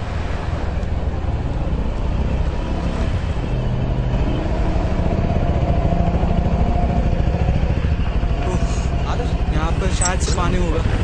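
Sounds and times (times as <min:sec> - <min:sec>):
motorcycle engines running: 0:00.0 - 0:11.0.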